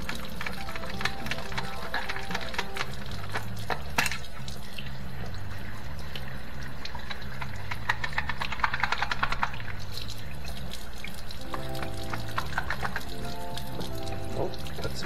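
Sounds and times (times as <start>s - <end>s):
water splashing and dripping: 0.0s - 15.0s.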